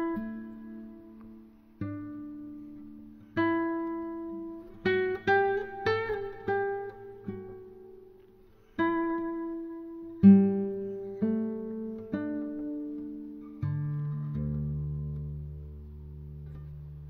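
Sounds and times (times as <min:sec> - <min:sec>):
solo acoustic guitar: 0:00.0 - 0:17.0.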